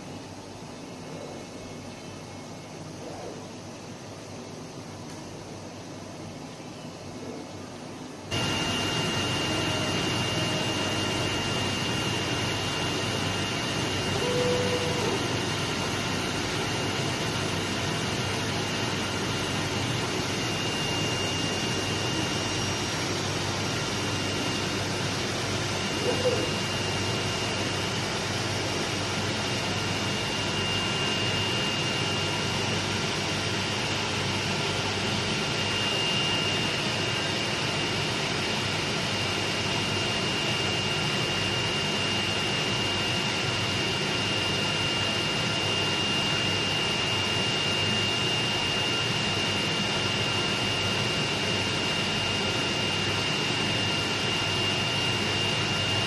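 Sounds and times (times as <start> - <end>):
high-pitched machine whine: 0.0 - 56.0
cutting machine whirring hum: 8.2 - 56.0.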